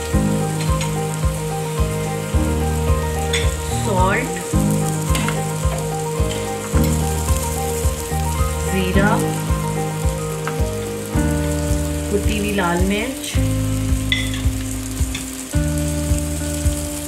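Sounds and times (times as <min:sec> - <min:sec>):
music with bass and beat: 0:00.0 - 0:17.0
onions frying in oil: 0:00.0 - 0:17.0.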